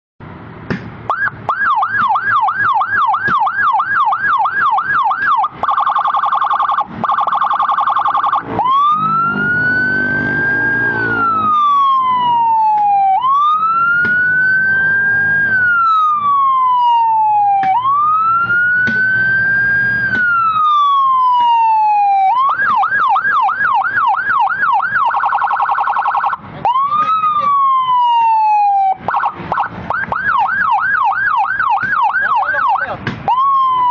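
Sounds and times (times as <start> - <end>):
electronic siren yelp: 1.1 - 33.9
siren rapid trill: 1.1 - 33.9
siren slow wail: 1.1 - 33.9.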